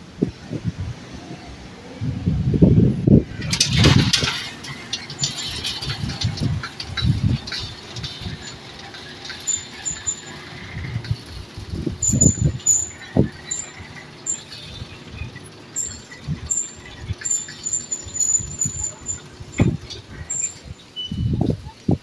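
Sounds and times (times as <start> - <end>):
electric gate squeaking: 3.4 - 21.6.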